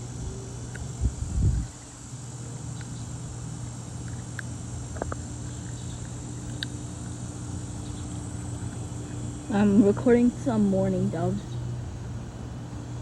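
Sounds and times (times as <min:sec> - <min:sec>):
insects chirring: 0:00.0 - 0:13.0
low steady hum: 0:00.0 - 0:13.0.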